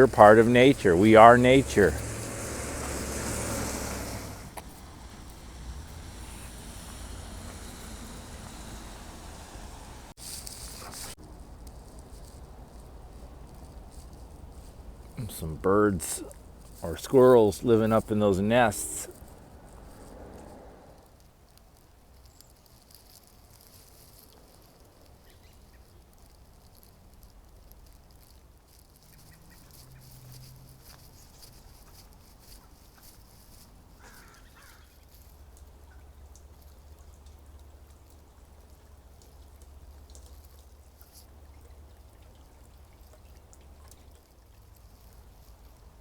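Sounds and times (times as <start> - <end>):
rain ticking and dripping: 0.0 - 10.2, 11.0 - 46.0.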